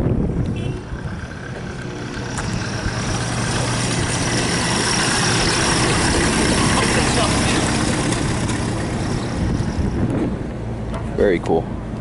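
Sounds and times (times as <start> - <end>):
old car engine running: 0.2 - 11.0.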